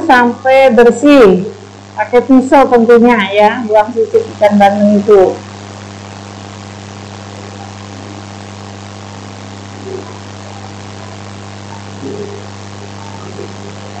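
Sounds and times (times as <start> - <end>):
low electrical hum: 0.0 - 14.0
microphone hiss: 0.0 - 14.0.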